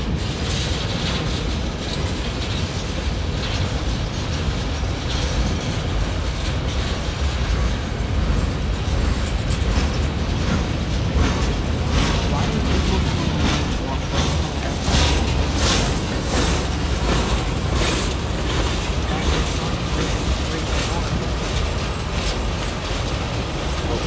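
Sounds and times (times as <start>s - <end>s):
train wheels rumbling on rails: 0.0s - 24.0s
wheels clacking over rail joints: 0.0s - 24.0s.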